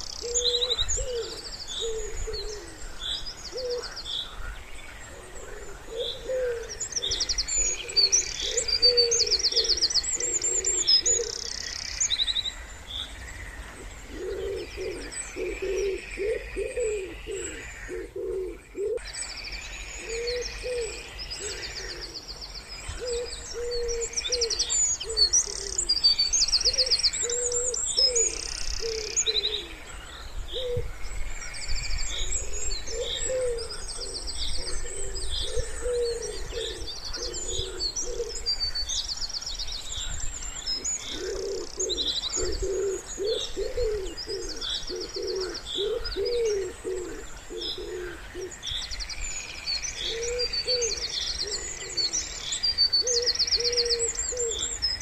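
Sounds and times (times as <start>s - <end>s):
wood pigeons cooing: 0.0s - 12.0s, 13.6s - 19.1s, 20.0s - 22.3s, 22.9s - 26.0s, 26.6s - 31.0s, 32.1s - 38.8s, 40.7s - 48.8s, 49.9s - 54.8s
songbirds chirping and trilling: 0.0s - 55.0s.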